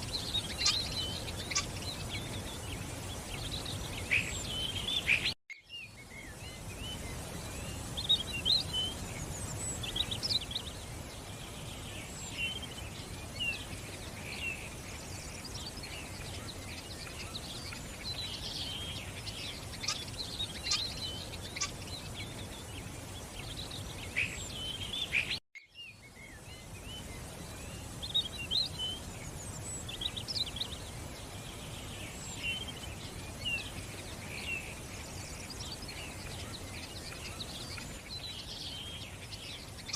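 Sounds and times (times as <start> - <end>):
birds chirping and calling: 0.0 - 25.4, 26.0 - 39.9.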